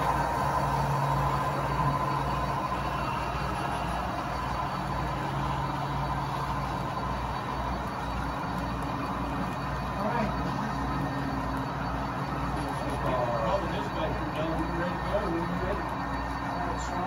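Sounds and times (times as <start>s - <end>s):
low hum: 0.0s - 17.0s
model train wheels rumbling on rails: 0.0s - 17.0s.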